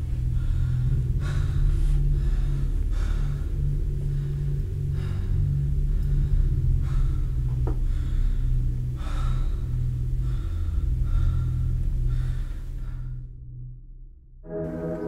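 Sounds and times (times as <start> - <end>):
low droning film score: 0.0 - 15.0.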